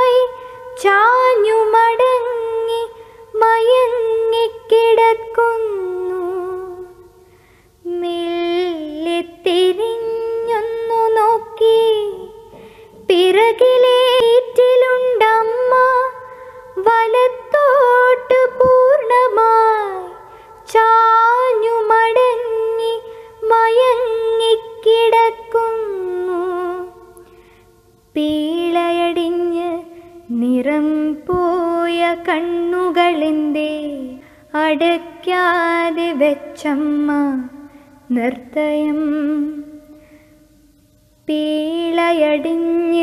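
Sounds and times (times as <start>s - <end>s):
woman singing a poem: 0.0s - 7.2s, 7.8s - 27.2s, 28.1s - 40.0s, 41.2s - 43.0s.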